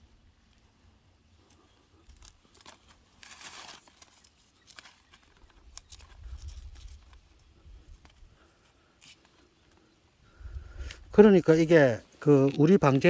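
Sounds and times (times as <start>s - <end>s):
leaves rustling and crinkling: 0.0s - 13.0s.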